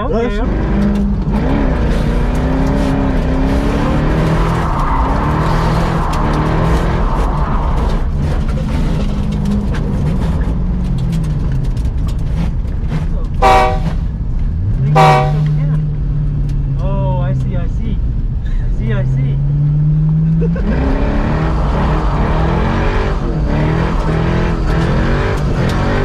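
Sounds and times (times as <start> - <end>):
tires skidding: 0.0 - 15.7, 19.7 - 26.0
car engine revving: 0.0 - 18.3, 19.0 - 26.0.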